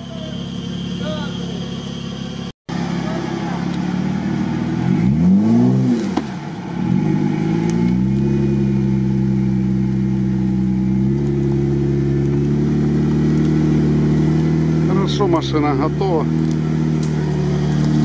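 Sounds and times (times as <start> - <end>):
engine revving under load: 0.0 - 18.0.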